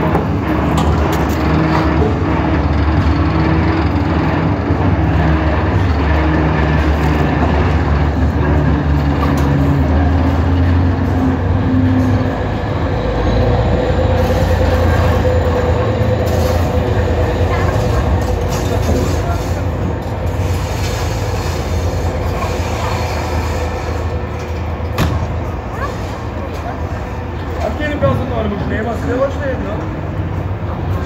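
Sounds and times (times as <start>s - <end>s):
low machinery drone: 0.0s - 31.0s.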